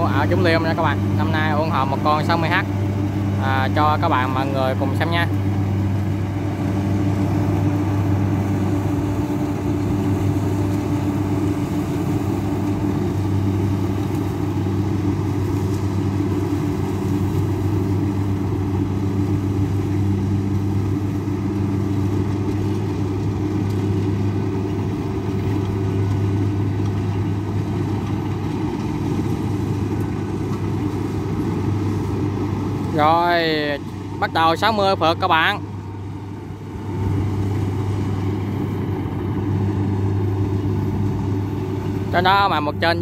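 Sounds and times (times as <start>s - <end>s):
combine harvester engine running: 0.0s - 43.0s.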